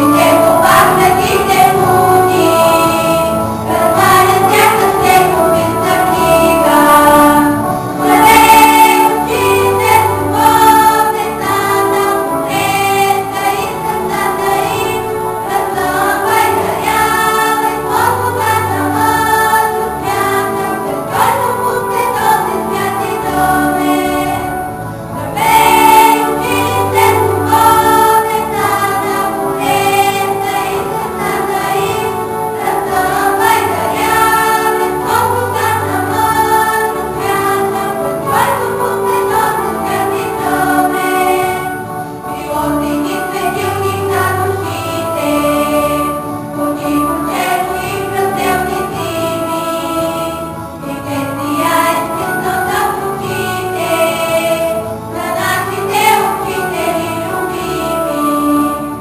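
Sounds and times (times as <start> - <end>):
choir singing with instruments: 0.0 - 59.0.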